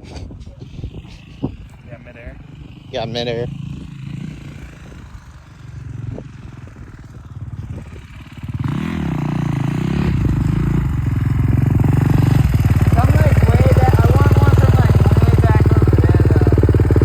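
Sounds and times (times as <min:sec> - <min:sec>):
dirt bike engine revving: 0:00.7 - 0:17.0.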